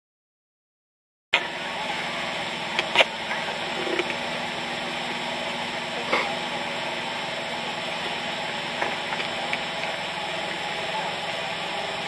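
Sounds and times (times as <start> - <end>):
engine idling: 1.4 - 12.0.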